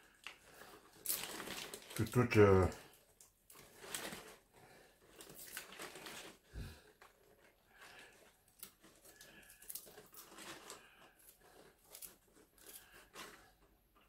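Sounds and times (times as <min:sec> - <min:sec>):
papery garlic skin crackles: 0:00.0 - 0:04.4, 0:05.1 - 0:13.4.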